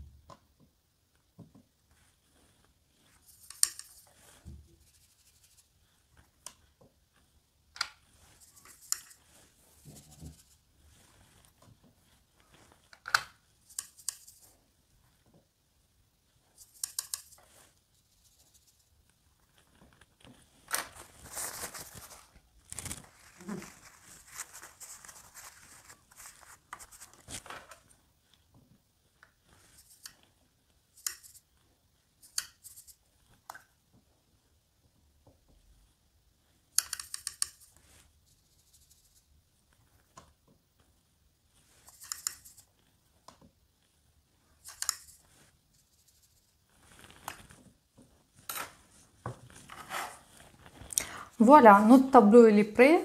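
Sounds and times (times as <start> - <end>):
paintbrush scratching and tapping: 0.3 - 15.5, 16.2 - 34.2, 35.2 - 50.9.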